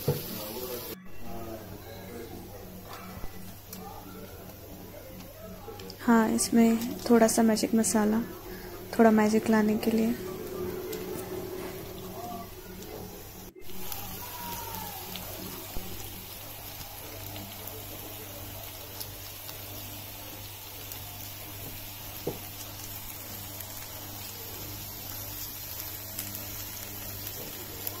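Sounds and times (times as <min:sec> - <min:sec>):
potatoes sizzling in a pan: 0:00.0 - 0:28.0.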